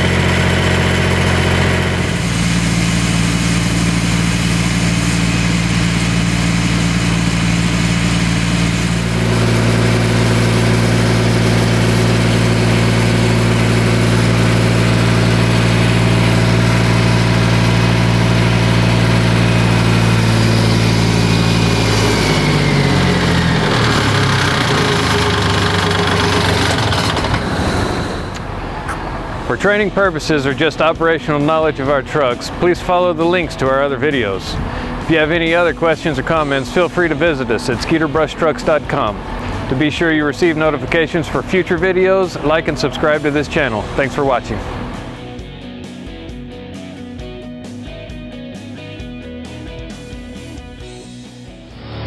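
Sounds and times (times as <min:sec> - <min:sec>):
engine driving pump: 0:00.0 - 0:45.5.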